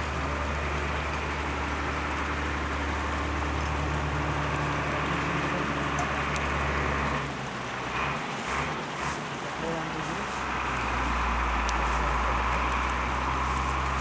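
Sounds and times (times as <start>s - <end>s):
water pouring into pool: 0.0s - 14.0s.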